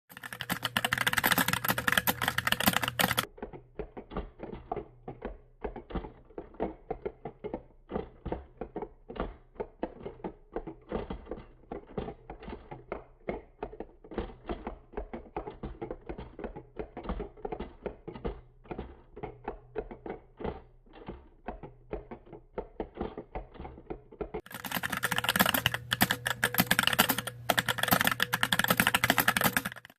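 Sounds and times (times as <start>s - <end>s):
fast typing on mechanical keyboard: 0.1s - 29.9s
slowed-down dull keystrokes: 0.1s - 29.9s.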